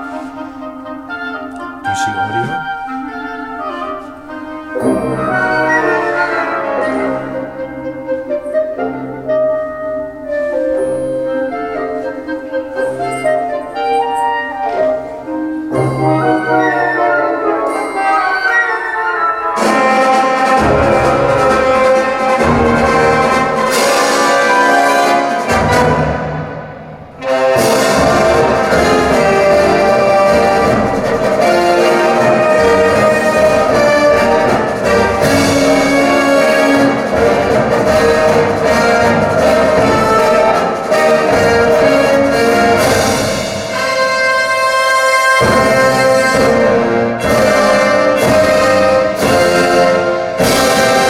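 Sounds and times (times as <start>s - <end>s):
orchestral music over loudspeakers: 0.0s - 51.0s.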